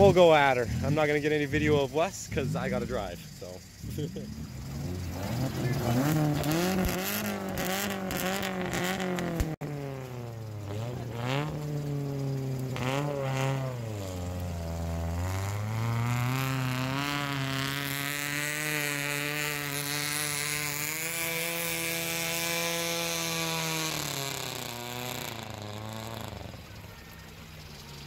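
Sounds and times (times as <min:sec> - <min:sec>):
car engine revving hard: 0:00.0 - 0:27.3.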